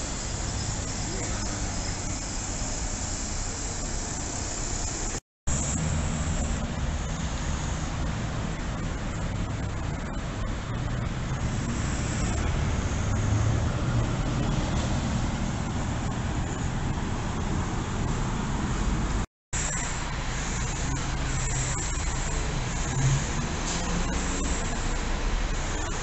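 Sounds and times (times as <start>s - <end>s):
bus engine running: 0.0s - 26.0s
road traffic noise: 0.0s - 26.0s.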